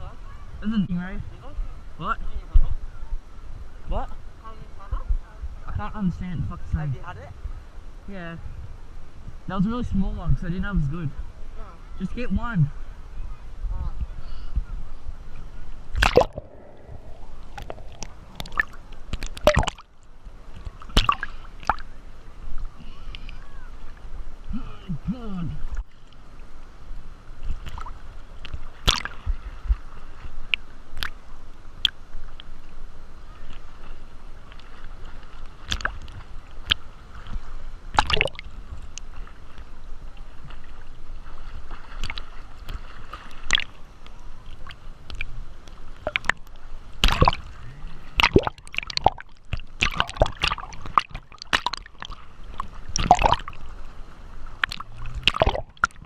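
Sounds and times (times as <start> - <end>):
water sloshing and gurgling: 8.9 - 56.0.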